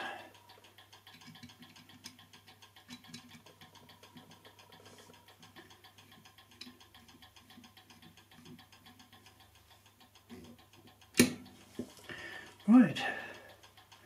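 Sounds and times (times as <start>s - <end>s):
clock movement ticking: 0.0s - 14.0s.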